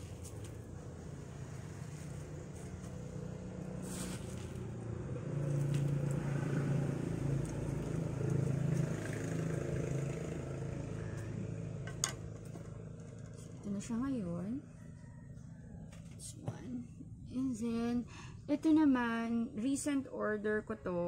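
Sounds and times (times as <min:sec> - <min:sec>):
motor engine humming: 0:00.0 - 0:17.1.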